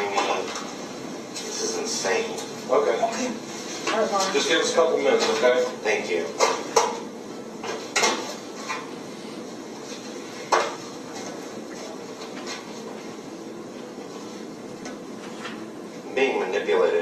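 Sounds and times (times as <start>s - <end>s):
room noise hum: 0.0s - 17.0s.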